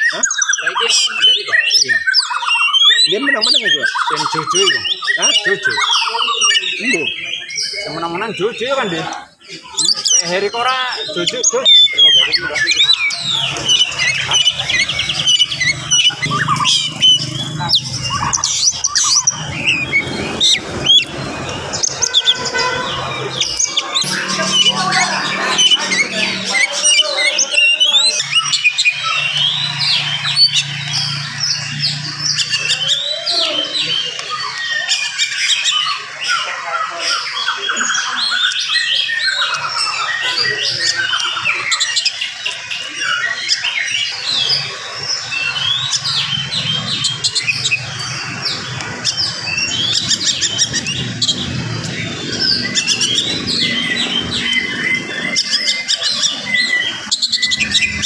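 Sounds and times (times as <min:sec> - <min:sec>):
bird singing chirps and whistles: 0:00.0 - 0:58.0.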